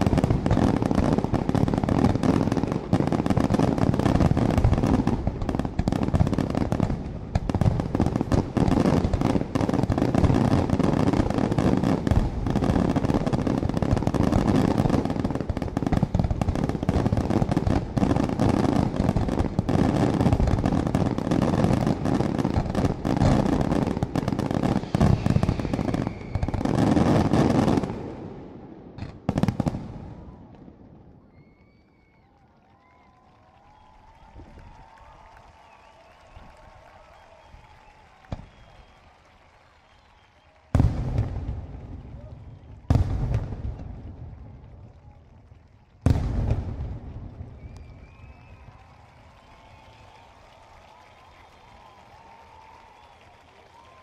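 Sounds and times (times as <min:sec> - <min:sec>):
fireworks banging and crackling: 0:00.0 - 0:54.0.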